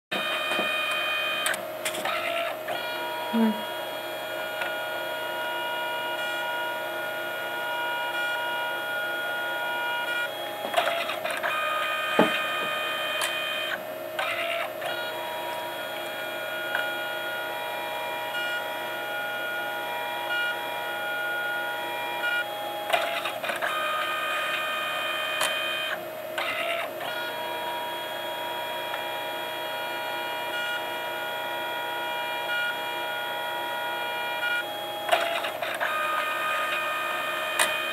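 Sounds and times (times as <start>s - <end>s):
printer motor whine: 0.1s - 37.9s.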